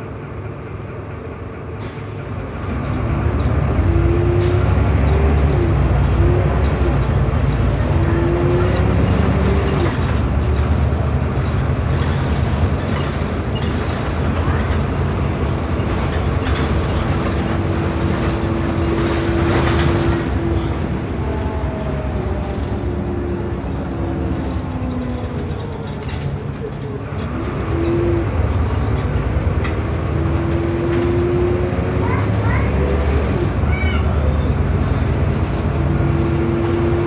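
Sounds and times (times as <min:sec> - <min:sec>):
bus engine rumble: 0:00.0 - 0:37.0.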